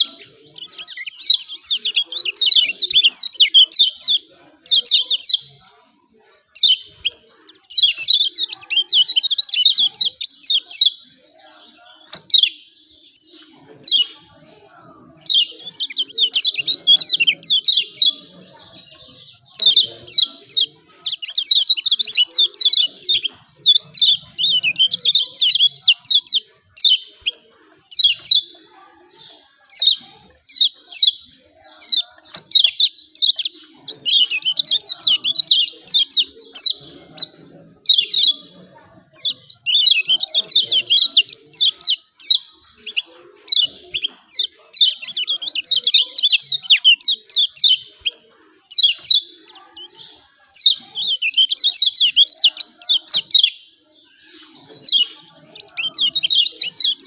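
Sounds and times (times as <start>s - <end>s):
bird rapid chirping: 0.0s - 5.7s, 6.4s - 14.2s, 15.1s - 57.0s.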